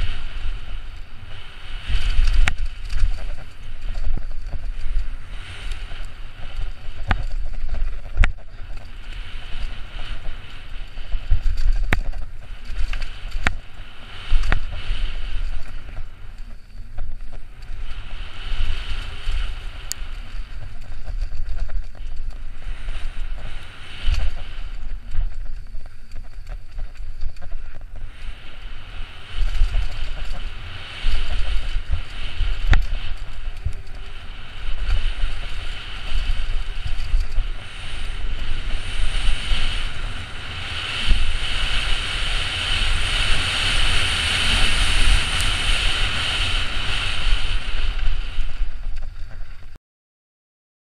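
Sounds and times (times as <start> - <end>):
steady rush: 0.0 - 49.7
wind buffeting microphone: 0.0 - 49.8.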